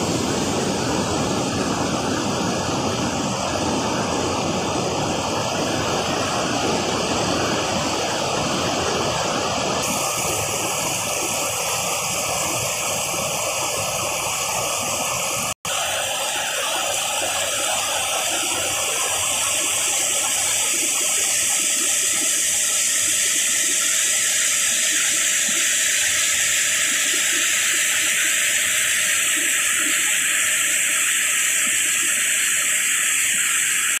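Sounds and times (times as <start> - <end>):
water rushing over rocks: 0.0 - 34.0.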